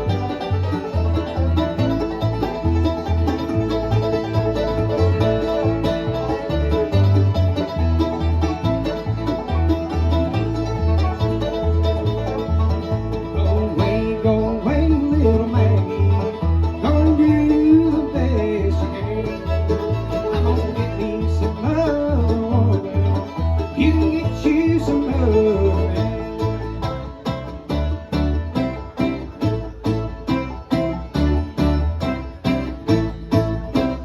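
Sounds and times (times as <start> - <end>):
acoustic string band playing: 0.0 - 34.0.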